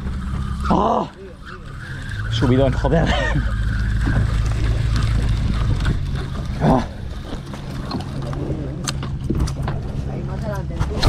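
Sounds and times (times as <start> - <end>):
outboard motor idling: 0.0 - 10.7.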